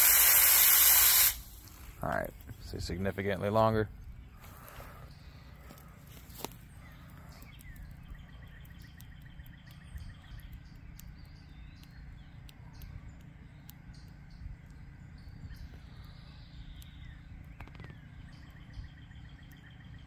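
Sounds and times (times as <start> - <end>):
faint chirps and ticks: 1.6 - 20.0.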